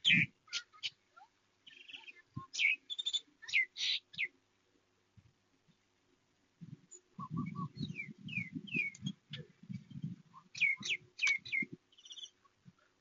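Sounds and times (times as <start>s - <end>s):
low rapid pulsing bird calls: 0.0s - 4.4s, 6.9s - 13.0s.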